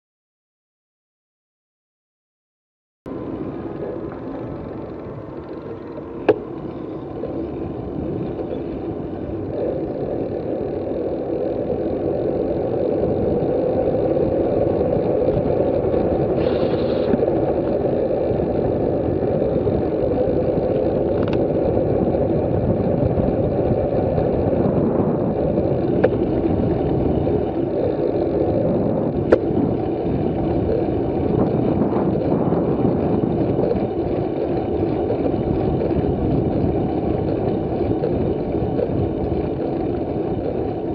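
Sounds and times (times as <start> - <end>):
bicycle tyre and road noise: 3.1 - 40.9
wind rushing over microphone: 3.1 - 40.9.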